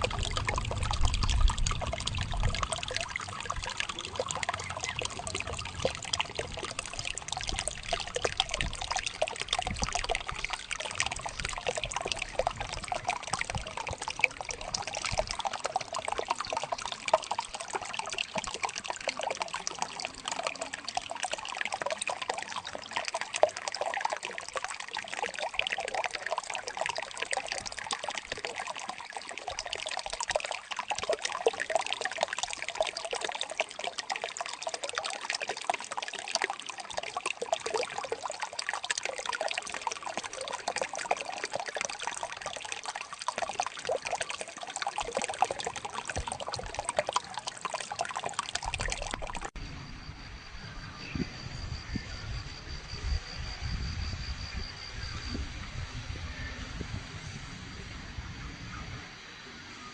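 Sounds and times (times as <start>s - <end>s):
water flowing and trickling: 0.0s - 49.6s.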